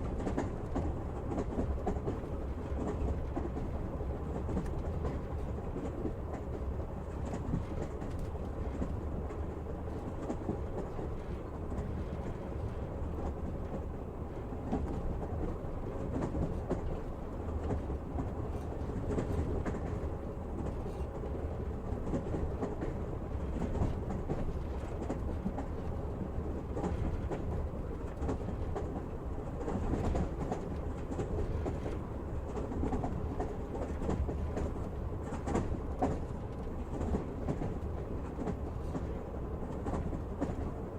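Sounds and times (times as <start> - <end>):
train rumble: 0.0 - 40.9.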